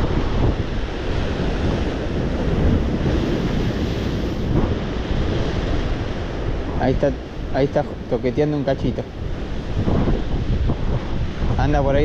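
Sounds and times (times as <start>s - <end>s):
sea surf washing against rocks: 0.0s - 12.0s
wind buffeting microphone: 0.0s - 12.0s.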